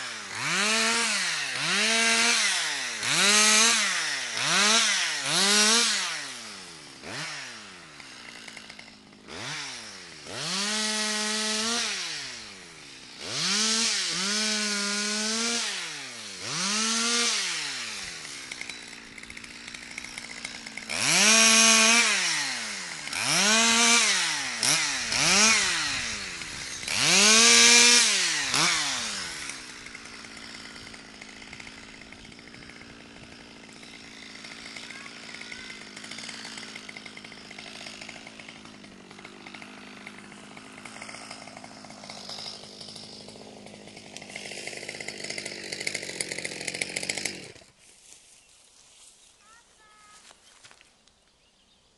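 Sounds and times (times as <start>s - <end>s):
chainsaw revving and idling: 0.0s - 50.8s.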